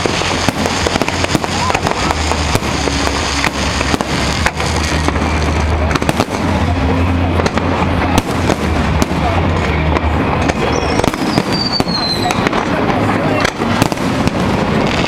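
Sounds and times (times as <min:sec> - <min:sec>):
fireworks rumble and crackle: 0:00.0 - 0:15.0
fireworks sharp bangs: 0:00.0 - 0:15.0.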